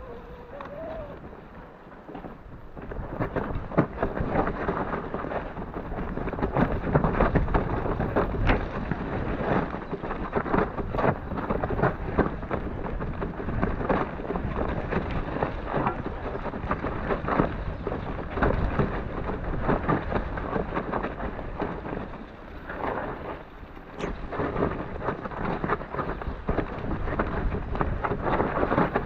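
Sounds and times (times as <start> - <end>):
wind buffeting microphone: 0.0 - 29.0
bike knocking and rattling on rocks: 2.0 - 29.0.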